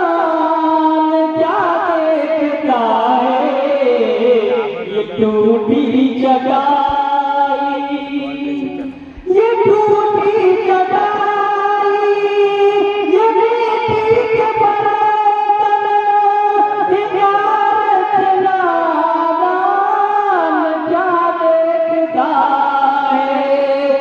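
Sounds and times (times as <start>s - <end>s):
man singing through microphone: 0.0s - 24.0s.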